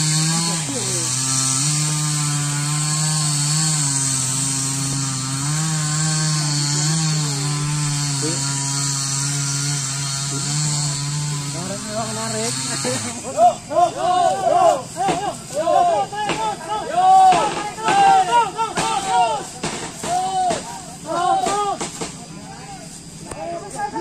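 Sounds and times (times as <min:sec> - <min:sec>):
chainsaw cutting: 0:00.0 - 0:23.9.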